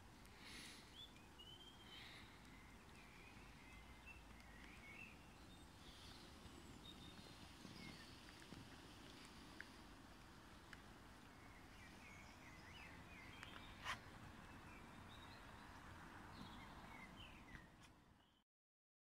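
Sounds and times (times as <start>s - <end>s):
faint birdsong: 0.0s - 18.4s.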